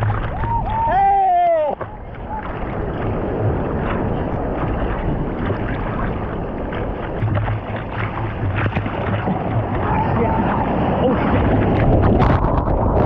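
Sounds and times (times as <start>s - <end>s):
ocean surf waves: 0.0s - 13.0s
wind buffeting microphone: 0.0s - 13.0s.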